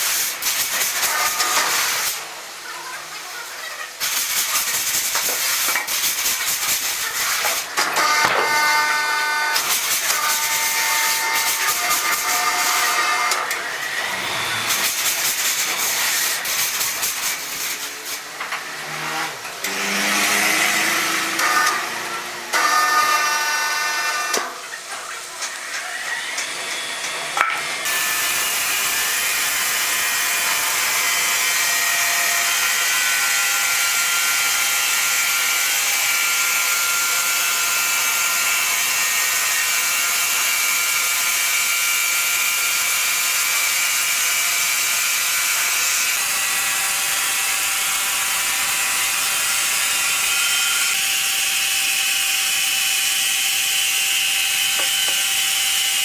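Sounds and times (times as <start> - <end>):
saw cutting through wood: 0.0 - 56.0.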